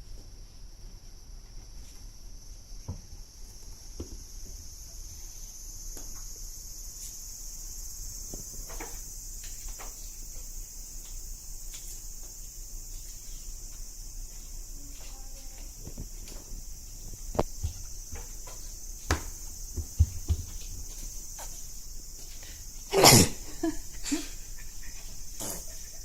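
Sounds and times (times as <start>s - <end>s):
insect chirring: 0.6s - 26.0s.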